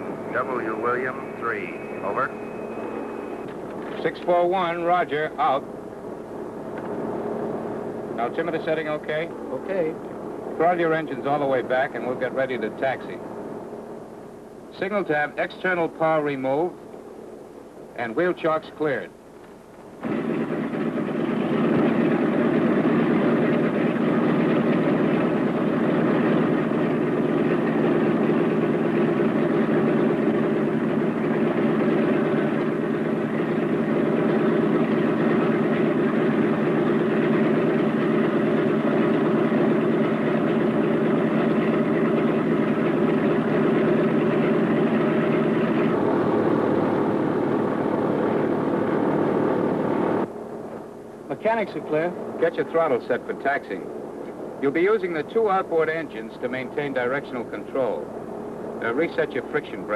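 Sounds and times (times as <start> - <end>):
radial aircraft engines idling: 0.0 - 59.9.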